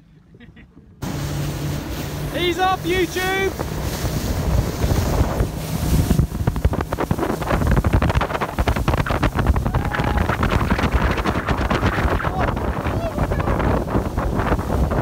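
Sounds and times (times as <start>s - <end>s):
choppy water splashing: 1.0s - 15.0s
wind buffeting microphone: 1.0s - 15.0s.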